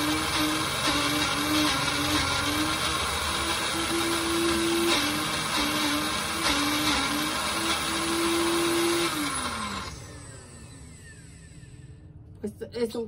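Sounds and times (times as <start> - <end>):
blender motor grinding: 0.0 - 11.9.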